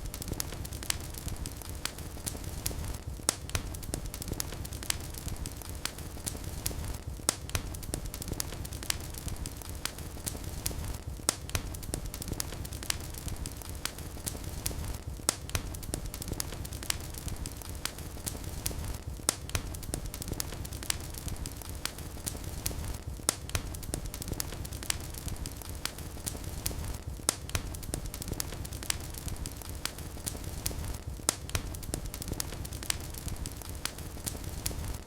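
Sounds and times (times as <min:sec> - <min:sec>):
fire crackling and popping: 0:00.0 - 0:35.0
low rumble of flames: 0:00.0 - 0:35.0.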